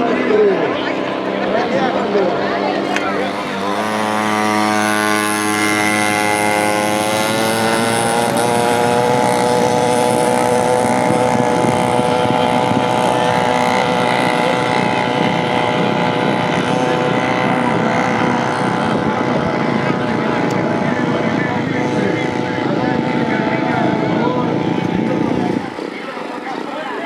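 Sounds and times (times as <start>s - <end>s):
dirt bike engine at full throttle: 0.0s - 27.0s.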